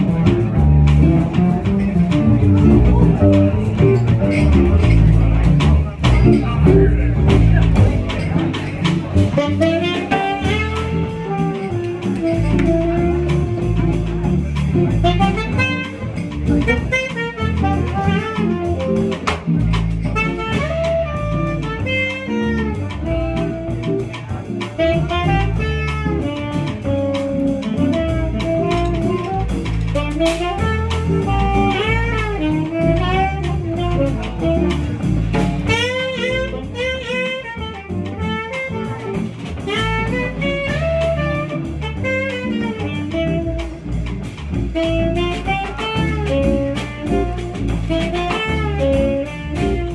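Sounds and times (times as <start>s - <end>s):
drums: 0.0s - 49.9s
saxophone lead line: 0.0s - 49.9s
walking bass line: 0.0s - 49.9s.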